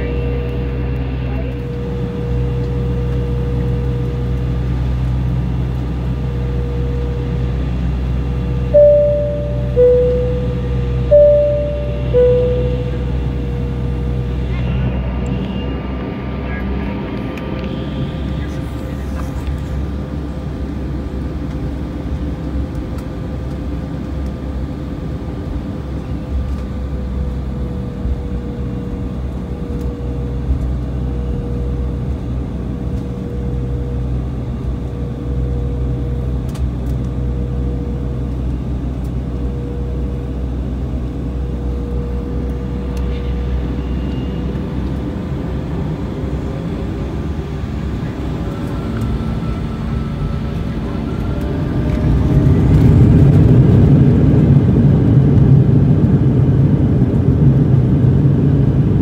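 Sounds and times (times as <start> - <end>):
high engine whine: 0.0 - 59.0
jet engine low rumble: 0.0 - 59.0.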